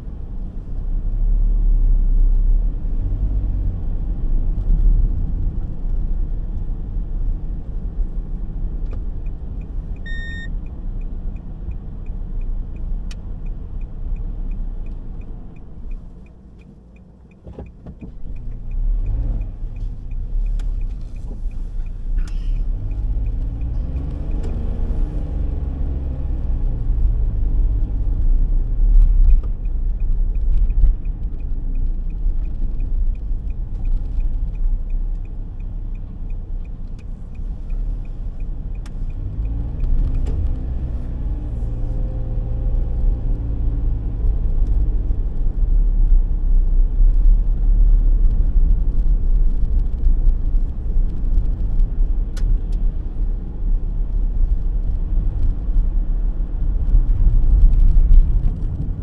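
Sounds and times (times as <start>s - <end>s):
car engine and road noise: 0.0s - 59.0s
turn signal ticking: 3.9s - 59.0s.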